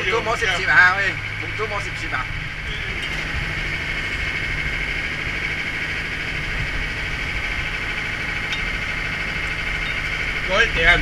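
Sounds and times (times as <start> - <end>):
boat engine droning with whine: 0.0 - 11.0.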